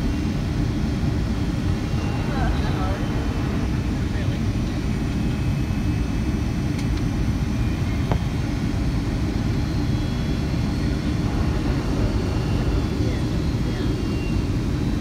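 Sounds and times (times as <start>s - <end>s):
airplane cabin engine noise: 0.0s - 15.0s.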